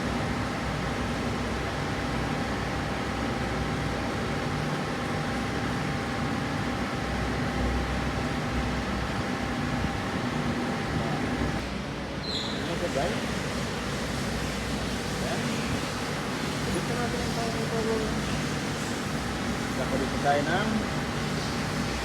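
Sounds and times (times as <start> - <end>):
mechanical hum with faint whine: 0.0 - 22.0.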